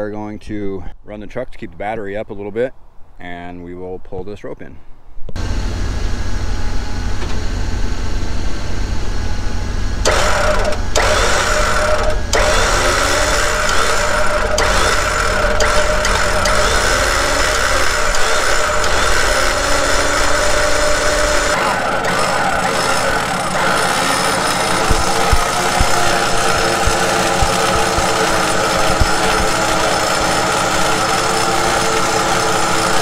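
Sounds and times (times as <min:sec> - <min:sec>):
car engine idling: 0:05.4 - 0:33.0
winch motor whining: 0:05.4 - 0:33.0.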